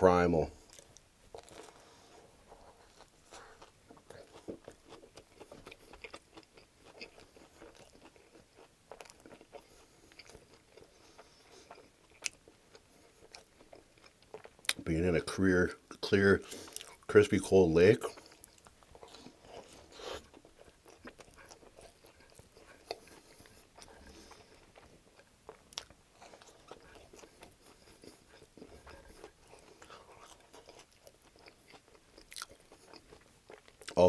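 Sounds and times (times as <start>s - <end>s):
chewing and biting: 0.6s - 14.9s, 15.9s - 17.1s, 18.0s - 34.0s.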